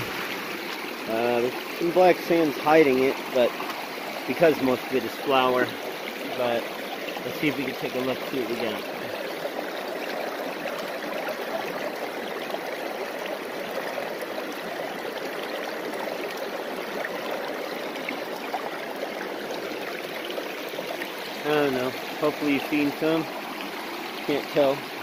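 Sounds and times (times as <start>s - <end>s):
stream water running over sluice: 0.0s - 25.0s.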